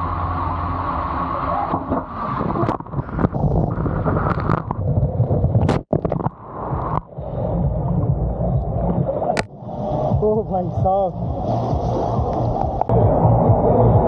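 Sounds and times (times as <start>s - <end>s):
wind noise on microphone: 1.6s - 14.0s.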